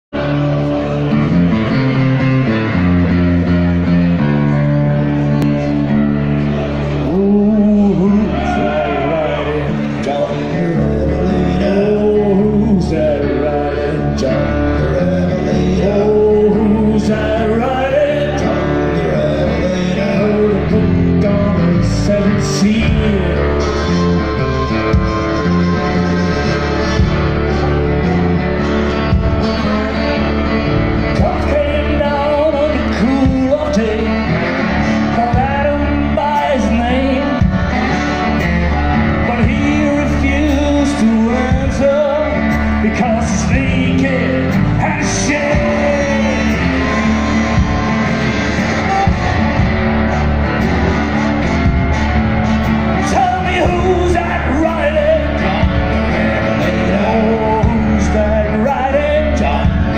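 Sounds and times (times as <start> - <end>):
drums: 0.0 - 59.9
acoustic guitar: 0.1 - 59.9
keyboard: 0.1 - 59.9
person singing: 2.8 - 59.9.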